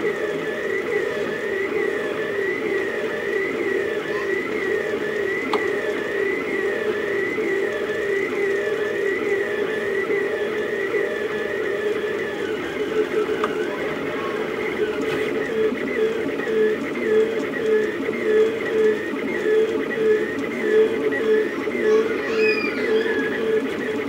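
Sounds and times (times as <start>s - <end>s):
printer stepper motors whining: 0.0s - 24.0s.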